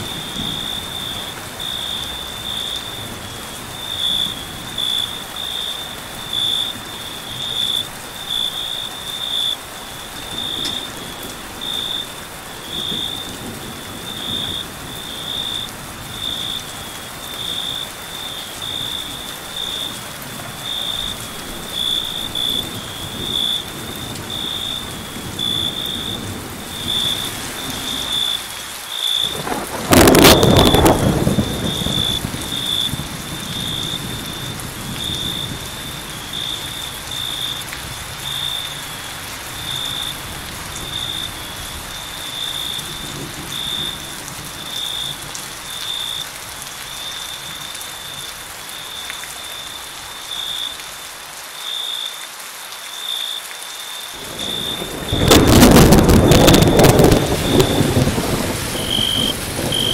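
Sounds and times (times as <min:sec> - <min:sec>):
cricket chirping: 0:00.0 - 0:59.9
rain on foliage: 0:00.0 - 0:59.9.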